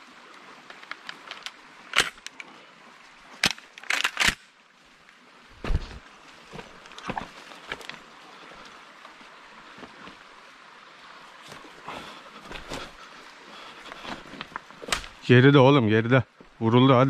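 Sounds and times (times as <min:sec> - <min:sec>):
dry leaves and twigs crackling: 0:00.3 - 0:04.4, 0:05.0 - 0:10.6, 0:11.2 - 0:15.4.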